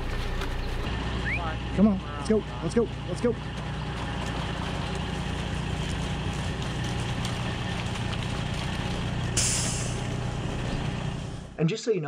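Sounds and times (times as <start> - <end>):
hooves clicking on frozen ground: 0.0 - 0.9, 2.0 - 11.0
truck idling: 0.0 - 11.6.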